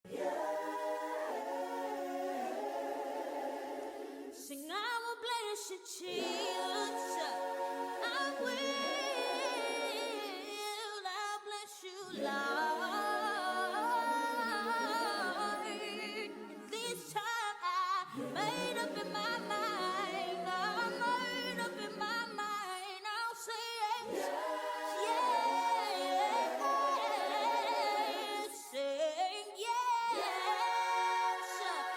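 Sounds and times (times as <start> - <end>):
a cappella choir singing: 0.0 - 31.9.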